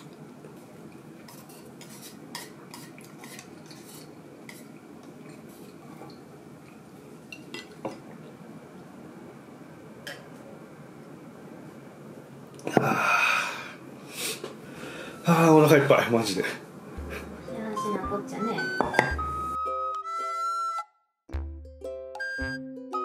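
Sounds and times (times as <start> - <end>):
faint background hum: 0.0 - 19.6.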